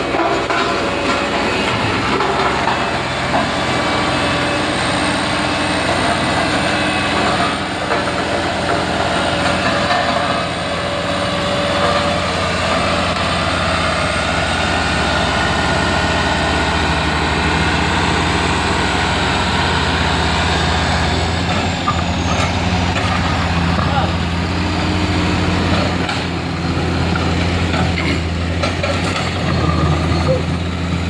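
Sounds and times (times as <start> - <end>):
heavy vehicle engines running: 0.0 - 31.0.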